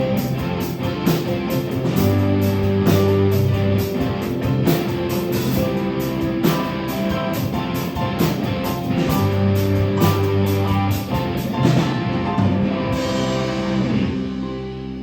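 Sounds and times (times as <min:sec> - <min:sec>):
drum kit cymbal beat: 0:00.0 - 0:14.0
bass line: 0:00.0 - 0:15.0
strummed guitar chords: 0:00.0 - 0:15.0.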